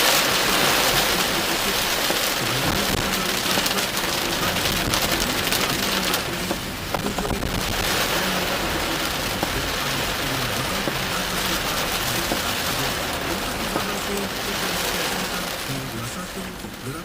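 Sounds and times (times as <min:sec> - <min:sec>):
heavy rain on a car: 0:00.0 - 0:17.0
raindrop ticks: 0:00.0 - 0:17.0.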